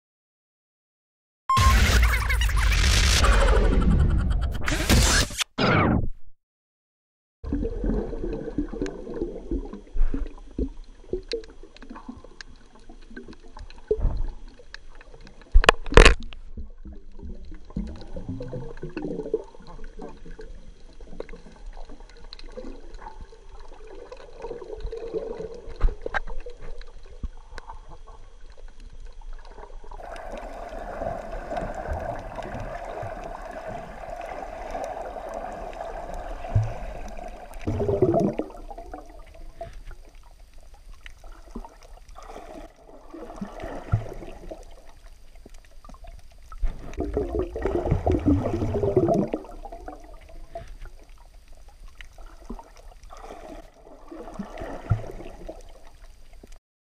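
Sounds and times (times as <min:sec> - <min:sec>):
muffled underwater water noise: 0:07.4 - 0:56.6
water sloshing and bubbles: 0:07.4 - 0:56.6.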